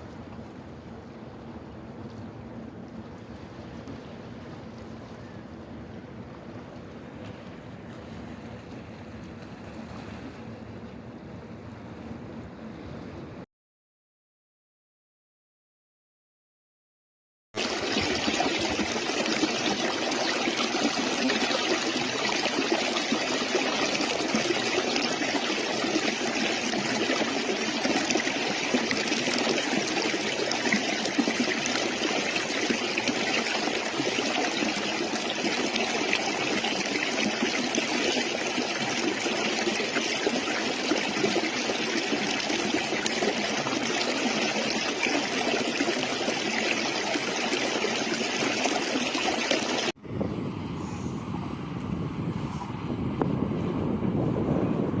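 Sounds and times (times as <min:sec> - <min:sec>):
stream water trickling: 0:00.0 - 0:12.0, 0:17.6 - 0:50.0.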